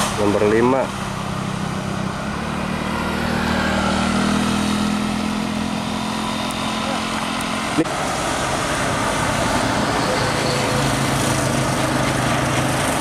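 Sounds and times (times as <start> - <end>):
bus driving away: 0.0 - 13.0
motorcycle engine passing: 1.7 - 13.0.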